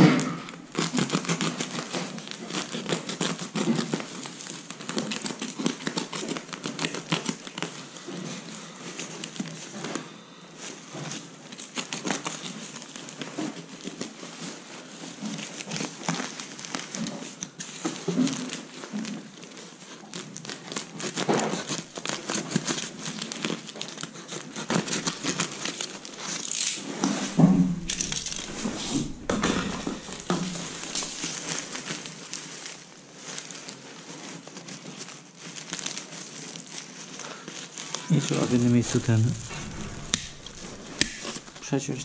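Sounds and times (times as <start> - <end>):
foil duct crinkling: 0.2 - 42.0.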